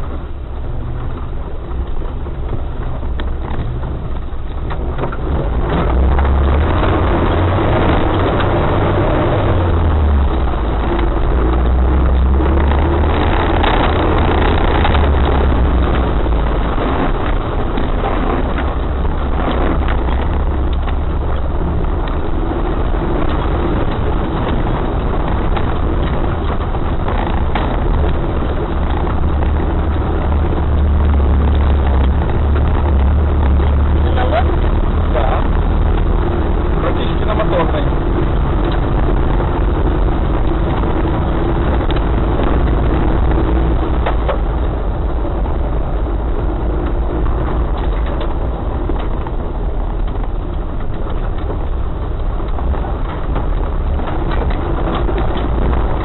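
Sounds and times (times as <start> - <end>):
off-road vehicle engine droning: 0.0 - 56.0
jostling rattle: 0.6 - 56.0.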